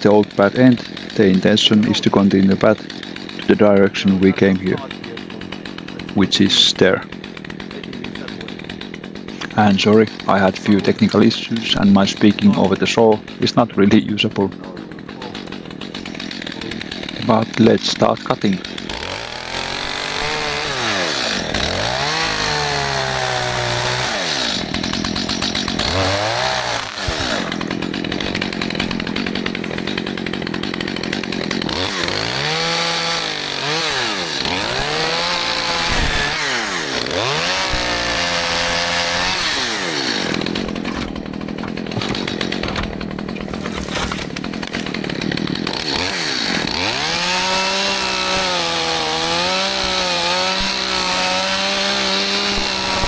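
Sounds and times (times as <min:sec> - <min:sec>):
chainsaw revving and cutting: 0:00.0 - 0:53.0.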